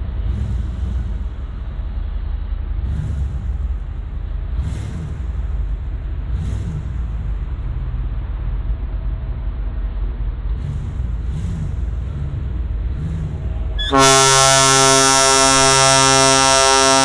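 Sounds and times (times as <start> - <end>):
truck engine low rumble: 0.0 - 17.0.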